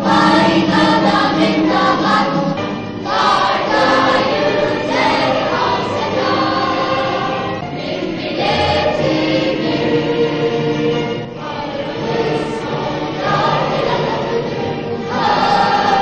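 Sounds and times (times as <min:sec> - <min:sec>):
choir singing held notes: 0:00.0 - 0:16.0.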